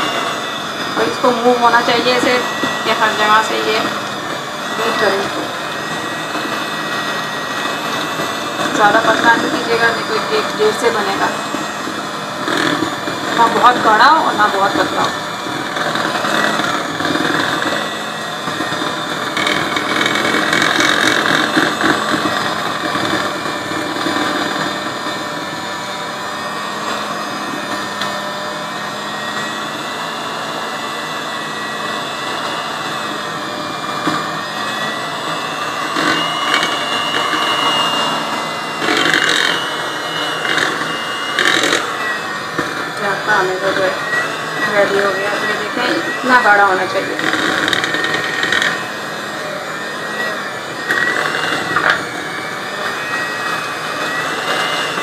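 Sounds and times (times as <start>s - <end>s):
electric hand mixer whine: 0.0s - 55.0s.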